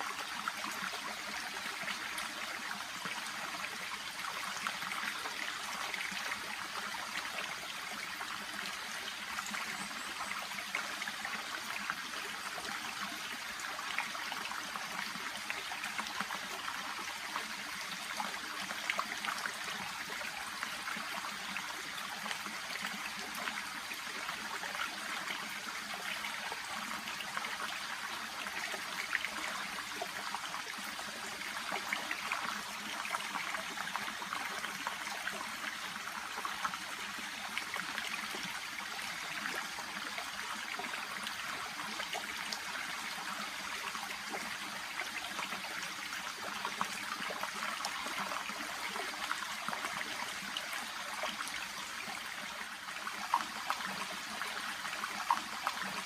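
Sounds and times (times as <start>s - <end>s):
stream babbling and trickling: 0.0s - 56.0s.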